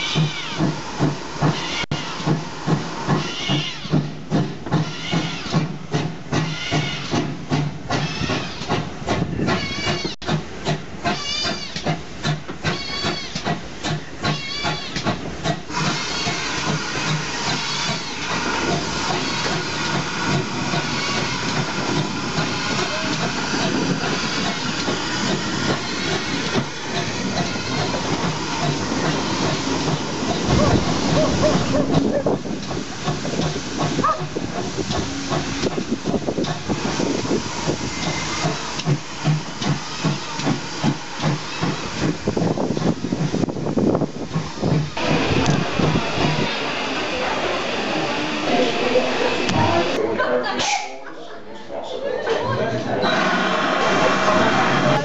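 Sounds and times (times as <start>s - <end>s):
steam hissing: 0.0s - 50.0s, 52.9s - 55.0s
steam locomotive exhaust beats: 0.0s - 50.0s.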